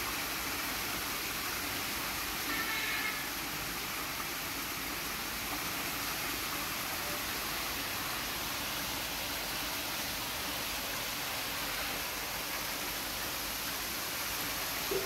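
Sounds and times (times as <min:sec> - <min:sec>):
water splashing from small waterfall: 0:00.0 - 0:15.0.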